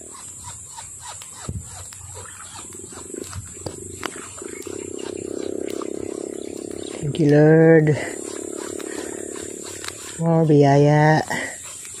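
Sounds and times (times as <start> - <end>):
high insect buzz: 0.0 - 12.0
low pulsing animal call: 0.0 - 12.0.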